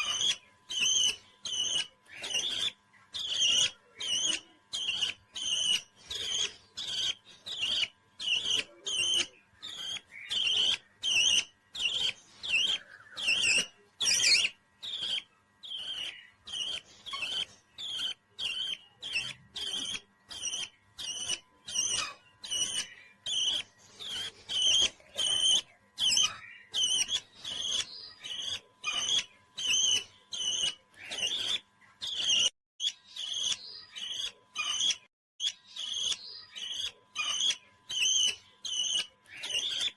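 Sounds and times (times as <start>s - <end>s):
parrot chirping: 0.0s - 39.9s.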